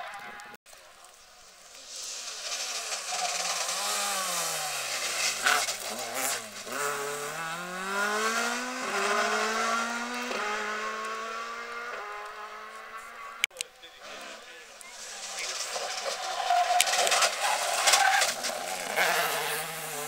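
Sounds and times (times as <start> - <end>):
gear upshifts: 1.7 - 13.5, 14.1 - 20.0
rally car engine revving: 2.0 - 20.0.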